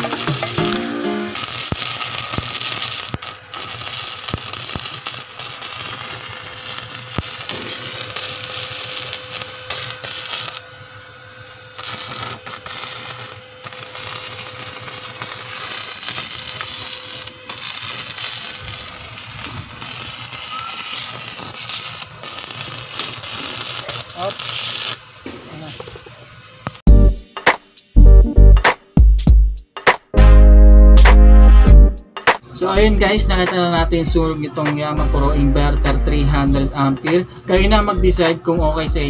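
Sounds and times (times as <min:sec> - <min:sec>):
welding arc crackling: 0:00.0 - 0:29.0, 0:32.3 - 0:39.0.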